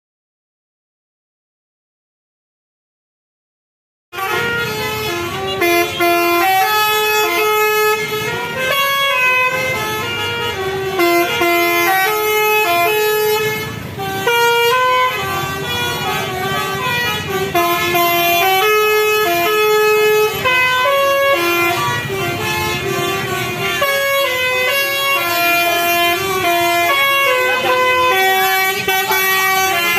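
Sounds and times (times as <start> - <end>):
multi-tone bus air horns melody: 4.2 - 29.9.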